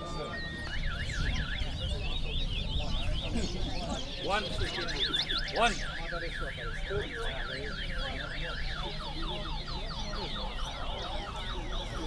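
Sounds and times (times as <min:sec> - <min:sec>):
finches singing: 0:00.0 - 0:12.0
low murmur of crowd: 0:00.0 - 0:12.0.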